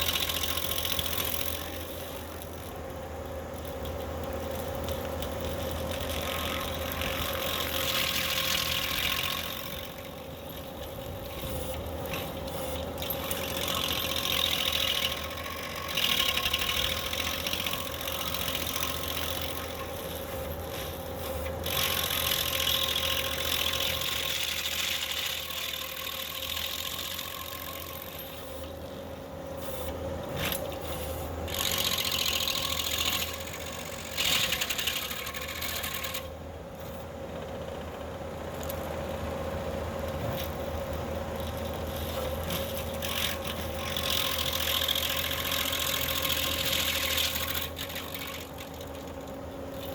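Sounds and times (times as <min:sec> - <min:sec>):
stump grinder chewing wood: 0:00.0 - 0:29.2, 0:30.0 - 0:49.9
skid steer engine running: 0:00.0 - 0:49.9.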